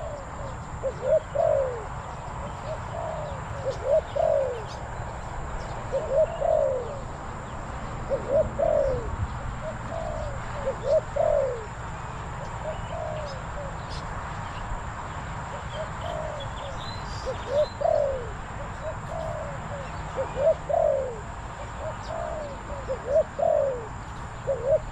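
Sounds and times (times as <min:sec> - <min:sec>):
dove cooing: 0:00.0 - 0:14.1, 0:15.5 - 0:24.9
small birds chirping: 0:00.0 - 0:24.9.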